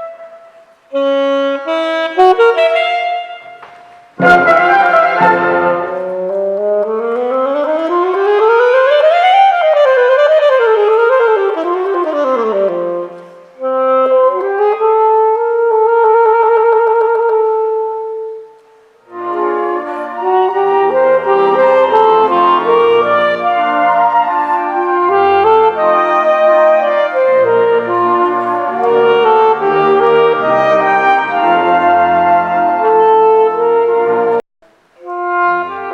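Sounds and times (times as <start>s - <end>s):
solo saxophone: 0.0s - 35.9s.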